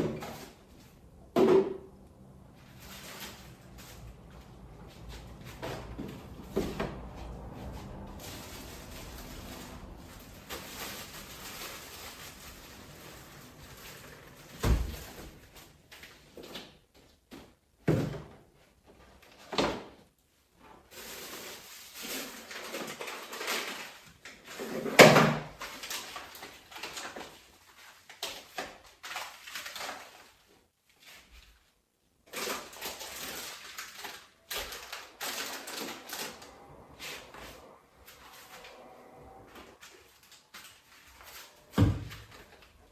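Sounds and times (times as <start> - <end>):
rustling and shuffling: 0.0 - 42.9.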